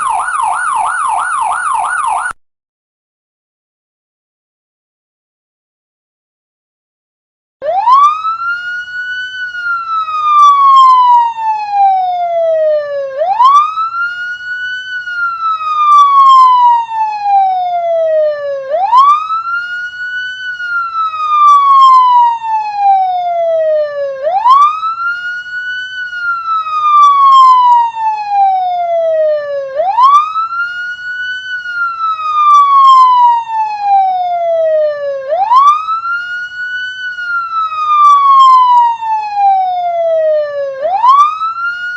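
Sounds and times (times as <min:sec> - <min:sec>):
police siren wailing: 0:00.0 - 0:02.4, 0:07.6 - 0:41.9.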